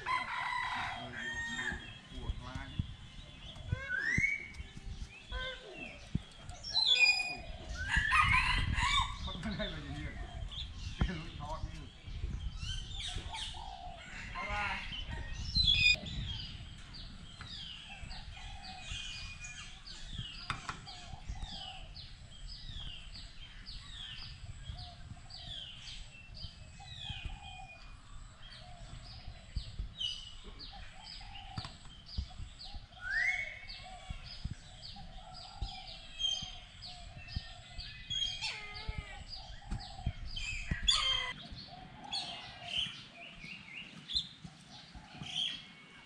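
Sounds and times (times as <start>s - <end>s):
birds chirping: 0.0s - 46.0s
lower bird calls: 1.0s - 45.9s.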